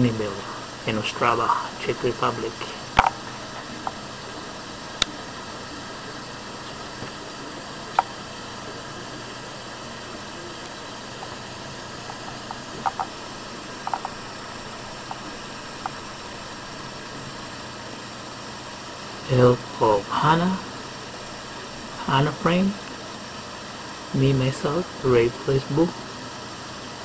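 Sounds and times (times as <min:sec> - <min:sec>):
machine hum and hiss: 0:00.0 - 0:27.0.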